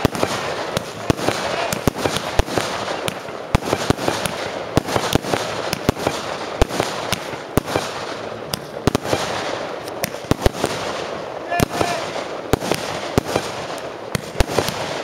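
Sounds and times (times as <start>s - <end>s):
fireworks bursting: 0.0s - 15.0s
steady rushing noise: 0.0s - 15.0s.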